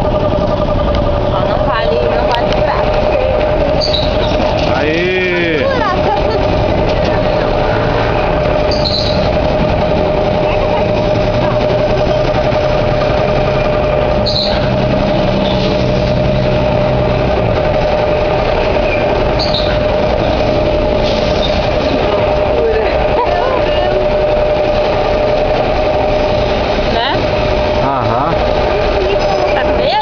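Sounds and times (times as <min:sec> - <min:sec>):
ride machinery humming: 0:00.0 - 0:30.0.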